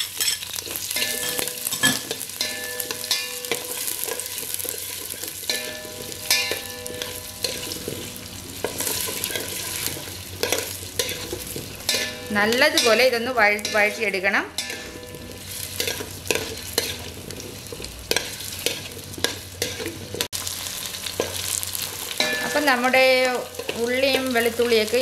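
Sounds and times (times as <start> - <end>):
spoon scraping and knocking pot: 0.0 - 20.3
vegetables sizzling in hot oil: 0.0 - 25.0.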